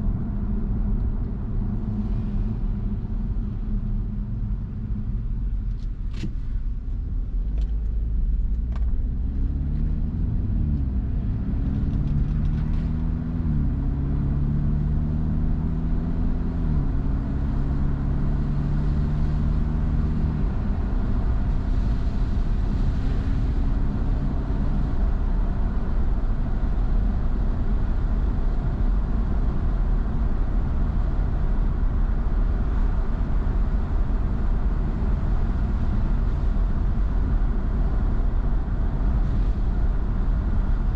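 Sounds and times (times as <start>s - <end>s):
road and tyre noise: 0.0s - 40.9s
car engine accelerating: 7.4s - 40.9s.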